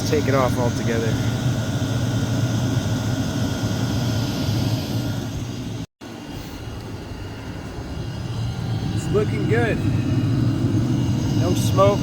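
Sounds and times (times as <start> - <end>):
air heater humming: 0.0 - 12.0
blower whirring: 0.0 - 12.0.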